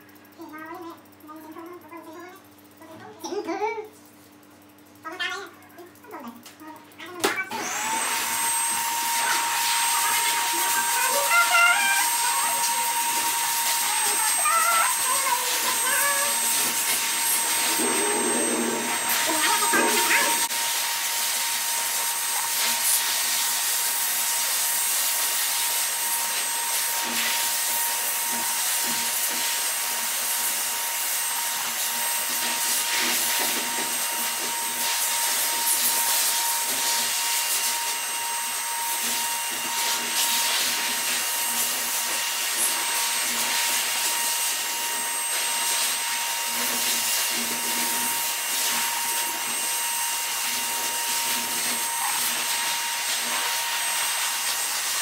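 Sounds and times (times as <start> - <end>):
pet grooming dryer blowing: 7.2 - 55.0.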